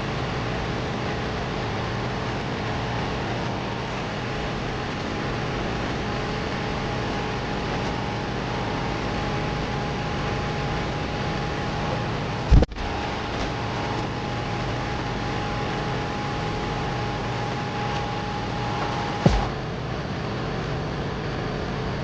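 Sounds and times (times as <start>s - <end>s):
air conditioning blower rushing: 0.0s - 22.0s.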